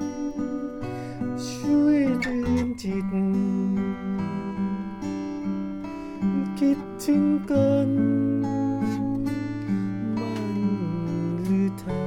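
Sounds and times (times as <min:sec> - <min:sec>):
person singing: 0:00.0 - 0:05.2, 0:06.2 - 0:12.0
acoustic guitar strummed: 0:00.0 - 0:12.0.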